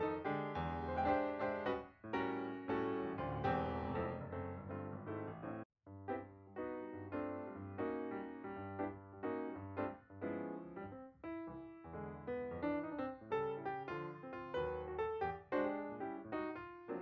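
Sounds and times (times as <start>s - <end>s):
piano background music: 0.0s - 17.0s.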